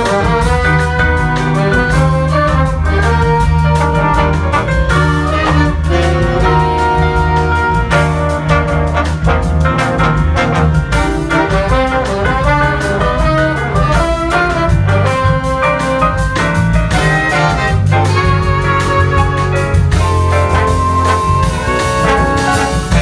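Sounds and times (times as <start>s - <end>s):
big band jazz playing bossa nova: 0.0s - 23.0s.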